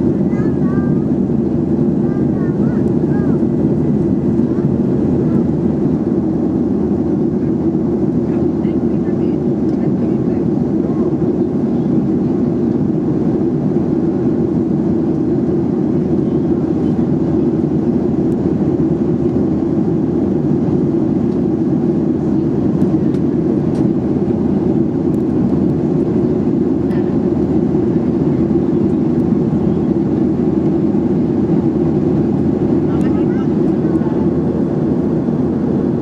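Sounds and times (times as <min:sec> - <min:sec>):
airflow in aircraft cabin: 0:00.0 - 0:36.0
airplane engine hum: 0:00.0 - 0:36.0.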